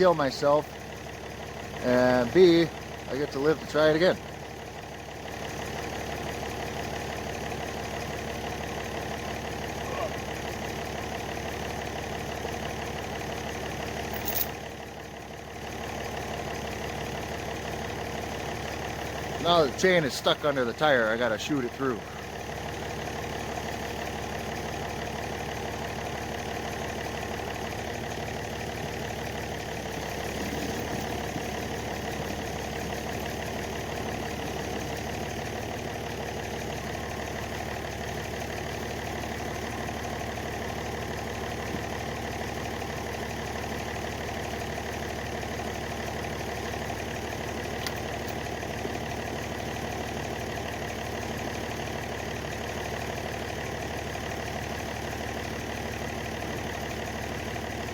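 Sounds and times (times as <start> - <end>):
tractor engine idling: 0.0 - 57.9.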